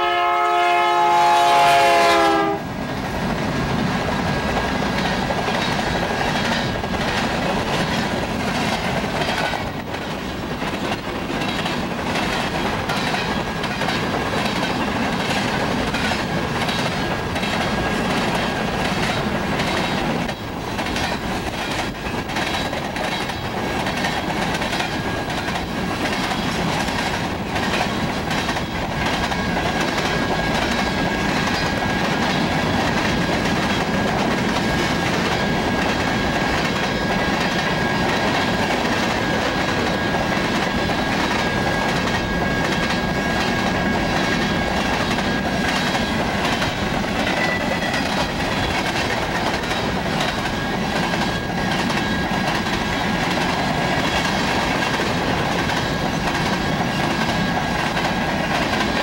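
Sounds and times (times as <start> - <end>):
train wheels clattering over rail joints: 2.0 - 59.0.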